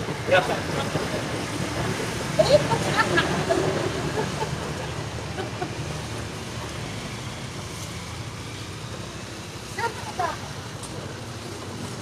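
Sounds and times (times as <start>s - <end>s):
motorbike engines running: 0.0s - 12.0s.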